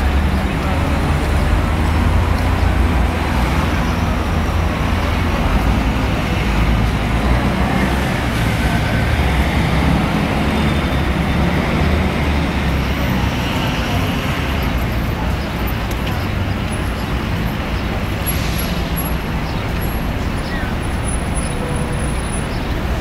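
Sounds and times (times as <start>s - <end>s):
buses and cars passing: 0.0s - 23.0s
road noise: 0.0s - 23.0s.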